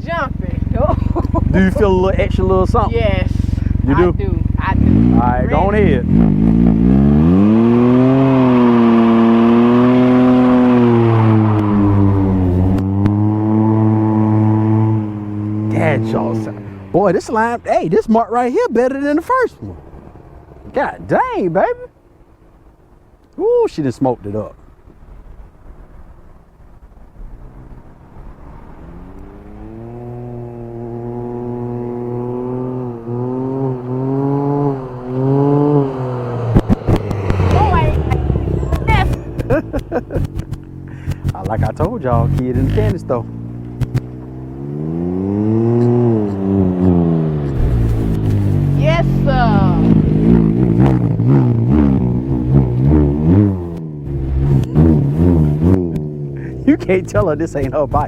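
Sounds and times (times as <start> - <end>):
motorcycle engine revving: 0.0 - 23.1, 25.1 - 58.0.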